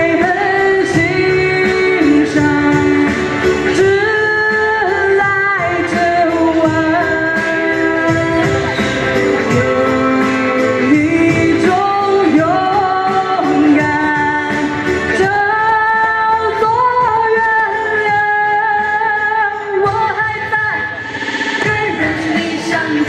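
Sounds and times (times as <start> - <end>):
backing music: 0.0 - 23.0
person singing pop song: 0.0 - 23.0.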